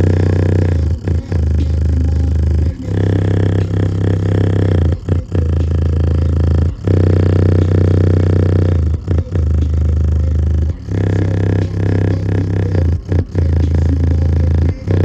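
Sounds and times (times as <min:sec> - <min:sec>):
subwoofer playing distorted bass tones: 0:00.0 - 0:15.0.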